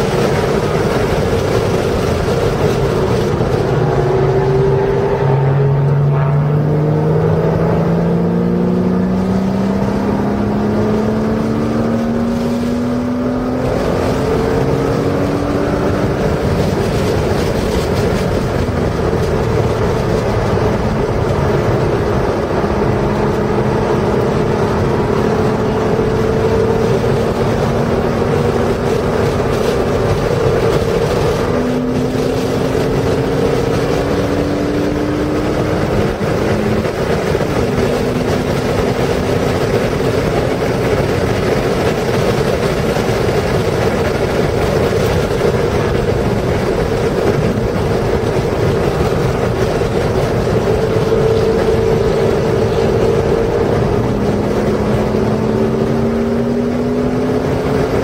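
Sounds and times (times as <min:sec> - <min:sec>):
car engine accelerating hard: 0:00.0 - 0:58.0
wind noise: 0:00.0 - 0:58.0.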